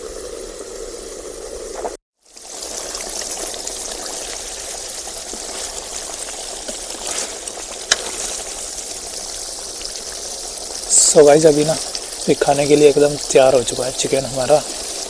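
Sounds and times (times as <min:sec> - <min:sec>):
chicken sizzling in an oven: 0:00.0 - 0:15.0.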